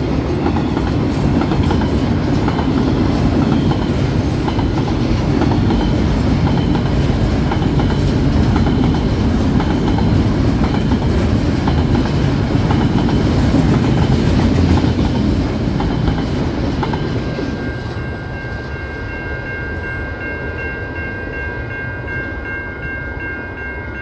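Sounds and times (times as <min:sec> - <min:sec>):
freight train clattering over crossing: 0:00.0 - 0:19.6
crossing warning bell ringing: 0:00.0 - 0:24.0.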